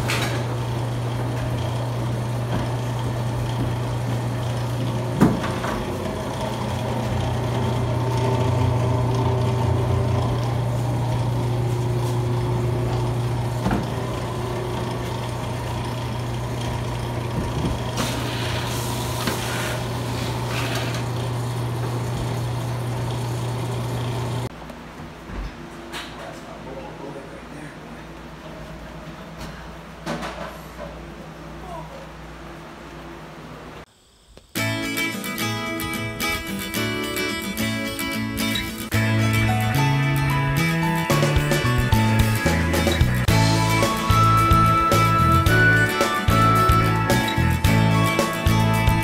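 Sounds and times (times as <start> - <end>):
machinery humming: 0.0 - 24.6, 26.6 - 49.0.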